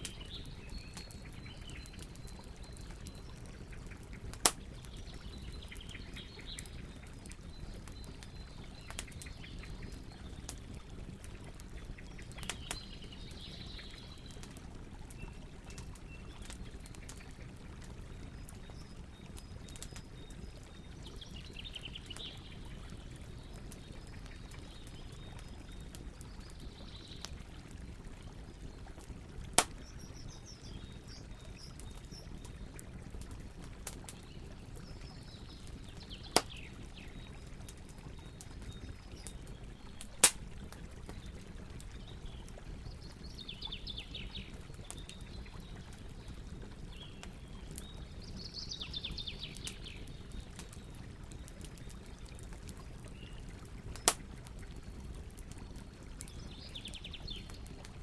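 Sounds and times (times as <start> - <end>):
campfire popping: 0.0 - 58.0.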